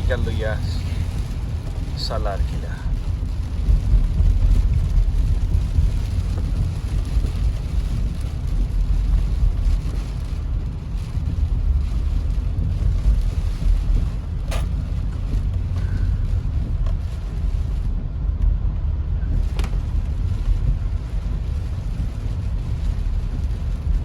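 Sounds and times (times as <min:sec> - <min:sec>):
rain hiss: 0:00.0 - 0:18.1, 0:19.3 - 0:24.0
road rumble inside car: 0:00.0 - 0:24.0.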